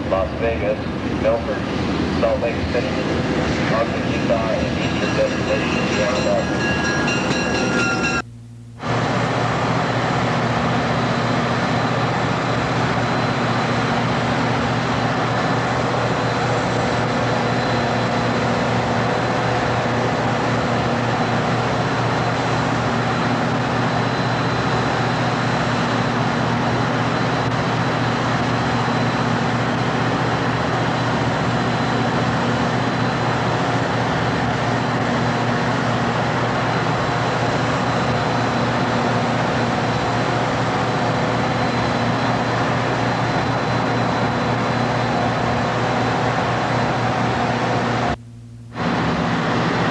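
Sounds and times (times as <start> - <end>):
diesel locomotive droning: 0.0 - 49.9.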